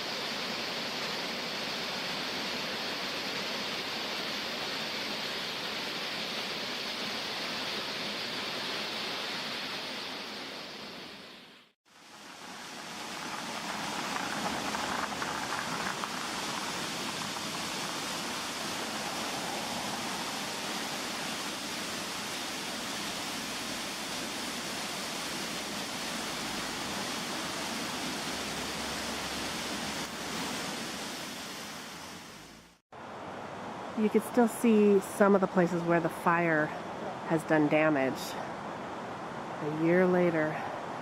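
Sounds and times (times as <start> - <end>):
waterfall rushing: 0.0 - 39.6.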